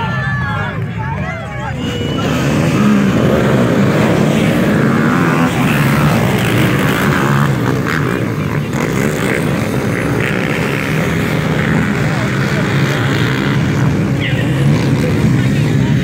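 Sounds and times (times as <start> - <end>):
atv engines revving: 0.0 - 16.0.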